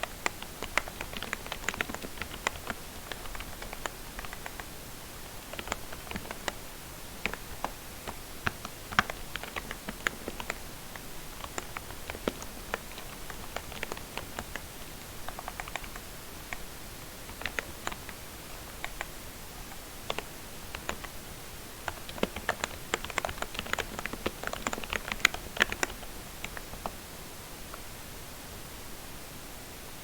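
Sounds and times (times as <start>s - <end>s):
soft keyboard typing: 0.0s - 21.2s, 21.8s - 27.0s.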